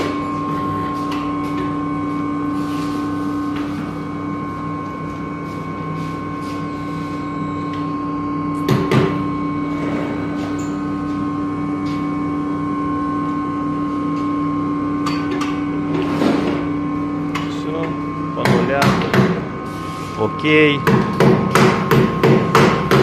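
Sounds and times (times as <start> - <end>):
workshop machine hum: 0.0 - 23.0.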